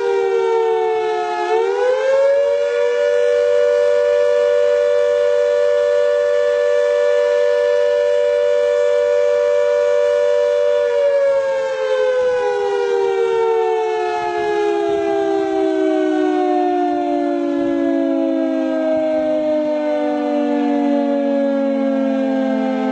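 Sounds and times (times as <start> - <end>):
siren winding down: 0.0 - 22.9.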